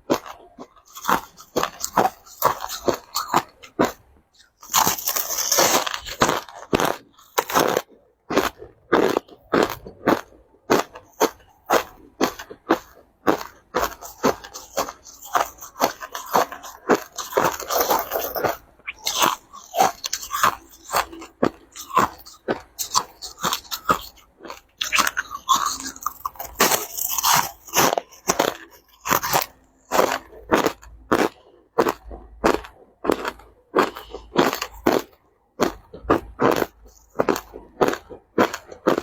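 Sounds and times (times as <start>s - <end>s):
crushed ice being chewed: 0.0s - 39.0s.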